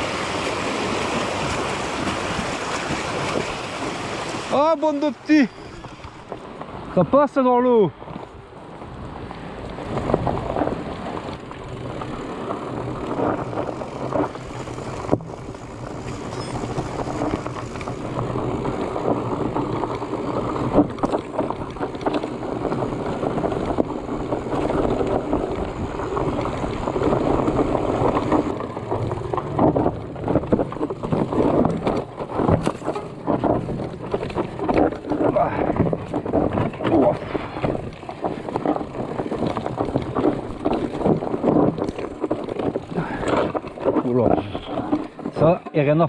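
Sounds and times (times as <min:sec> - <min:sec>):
bike rattling over bumps: 0:00.0 - 0:46.0
bike tyres on dirt: 0:00.0 - 0:46.0
wind noise on microphone: 0:08.1 - 0:45.7.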